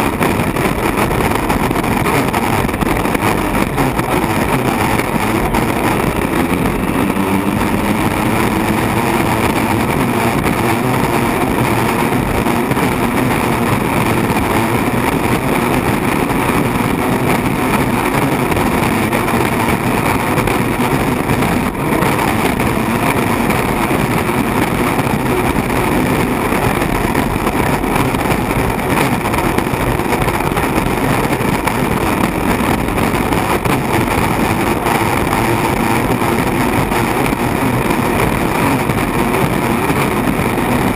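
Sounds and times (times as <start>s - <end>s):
hydroplane engine and water rush: 0.0s - 40.9s.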